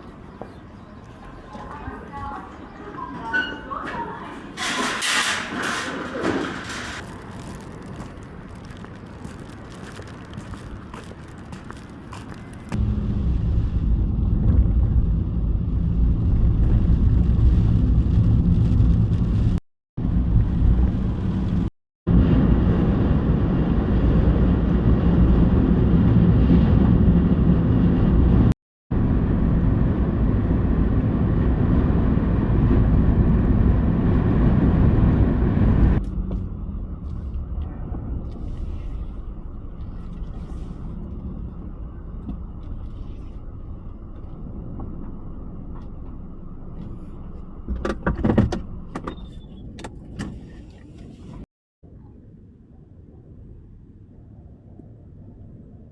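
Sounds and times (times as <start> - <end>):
road noise: 0.0 - 51.5
car engine rumble: 6.5 - 51.5.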